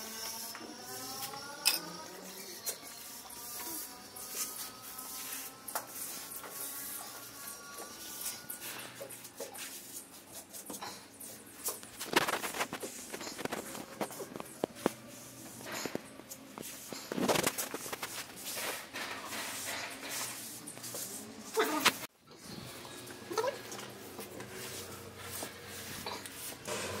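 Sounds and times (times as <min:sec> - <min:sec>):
grout float scraping floor tiles: 0:00.0 - 0:22.1, 0:23.4 - 0:27.0.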